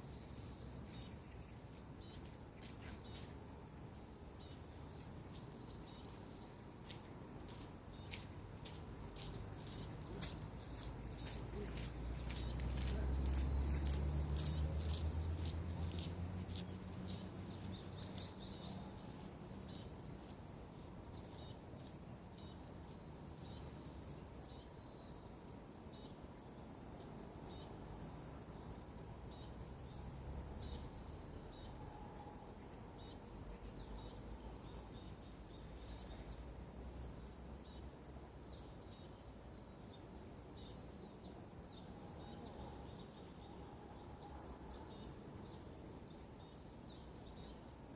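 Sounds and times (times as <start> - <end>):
wild birds chirping: 0.0 - 47.9.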